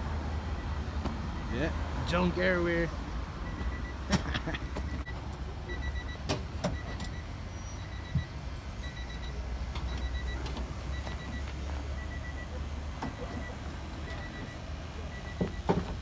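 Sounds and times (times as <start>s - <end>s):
car warning beeper pulses: 0.6s - 1.6s, 3.4s - 16.0s.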